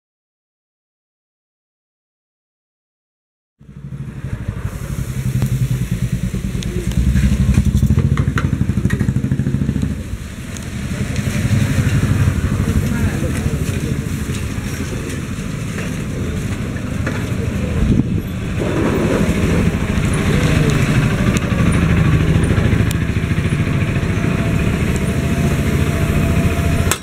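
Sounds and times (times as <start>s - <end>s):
street noise: 3.6s - 27.0s
vehicle engine running: 3.6s - 27.0s.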